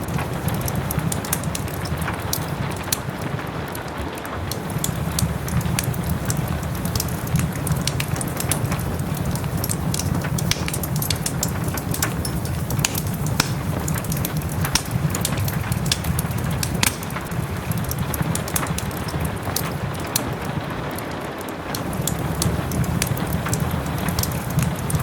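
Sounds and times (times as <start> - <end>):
gentle rain hiss: 0.0 - 25.0
wood fire crackling and popping: 0.0 - 25.0.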